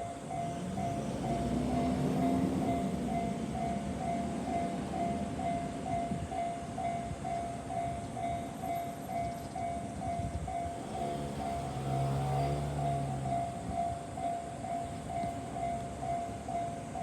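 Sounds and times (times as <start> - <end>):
train wheels on rail: 0.0 - 17.0.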